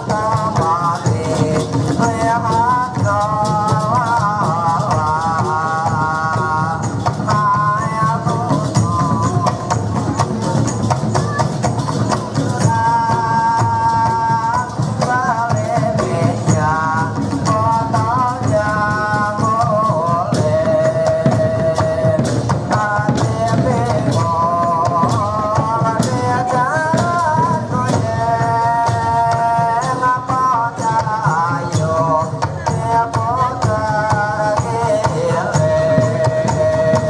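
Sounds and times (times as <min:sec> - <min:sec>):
frame drum beats: 0:00.0 - 0:37.0
jingling percussion: 0:00.0 - 0:37.0
person singing: 0:00.0 - 0:37.0.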